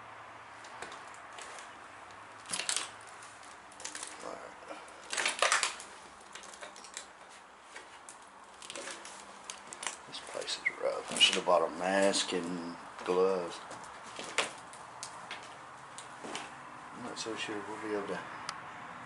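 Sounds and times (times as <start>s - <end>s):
footsteps crunching over debris: 0.6s - 16.6s
small clicks and rustles: 0.6s - 16.6s.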